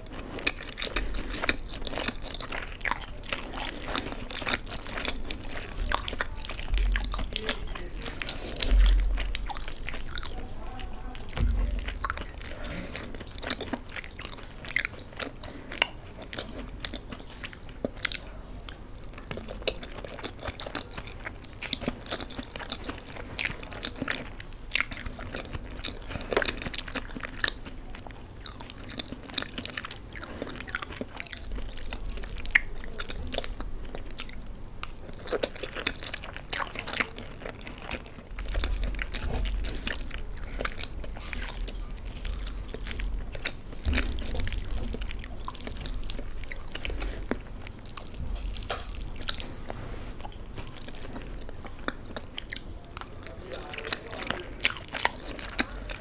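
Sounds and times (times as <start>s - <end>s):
close-miked chewing with mouth clicks: 0.0s - 56.0s.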